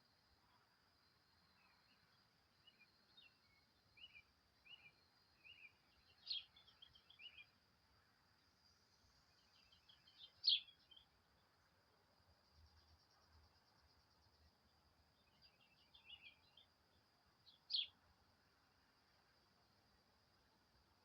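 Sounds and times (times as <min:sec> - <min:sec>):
small songbird chirping: 0:00.5 - 0:21.0.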